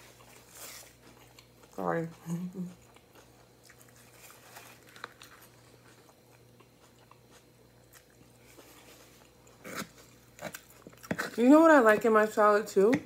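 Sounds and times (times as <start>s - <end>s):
chewing with crunches: 0.0s - 11.4s.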